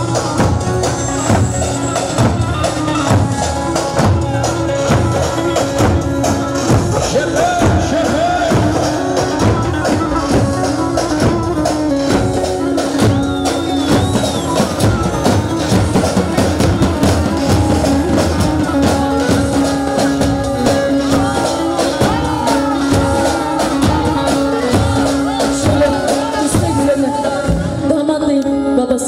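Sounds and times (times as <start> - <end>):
double-headed drum beating: 0.0 - 28.3.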